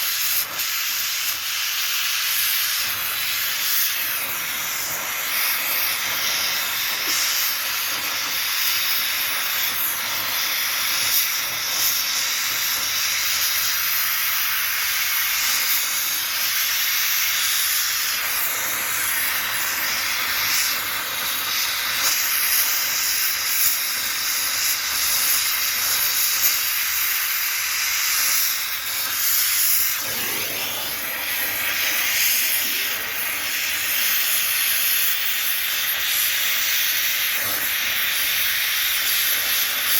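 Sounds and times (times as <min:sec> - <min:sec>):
welding torch hissing: 0:00.0 - 0:39.9.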